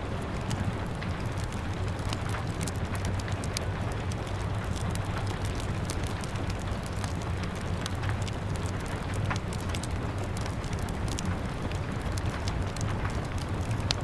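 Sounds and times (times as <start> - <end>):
rain pattering on a window: 0.0 - 14.0
wood fire crackling: 0.0 - 14.0.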